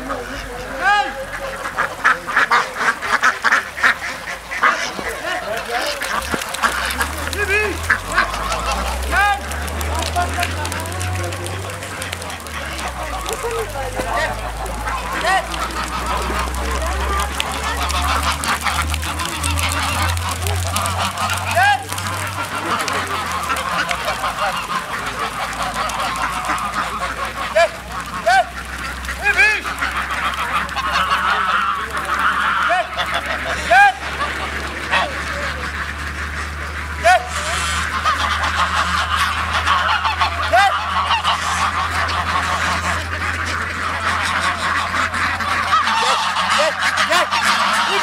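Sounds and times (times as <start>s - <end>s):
ducks and geese calling: 0.0s - 48.0s.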